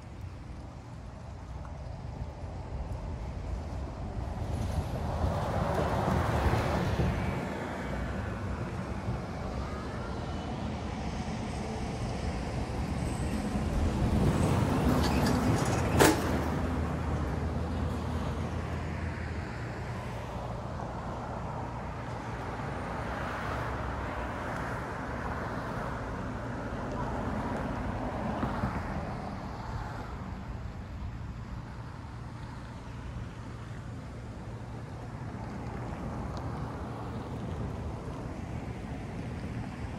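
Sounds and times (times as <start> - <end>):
cars passing: 0.0 - 39.9.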